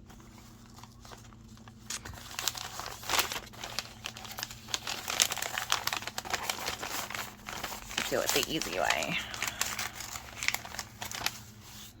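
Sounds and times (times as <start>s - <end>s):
paper wrapping crinkling: 0.0s - 12.0s.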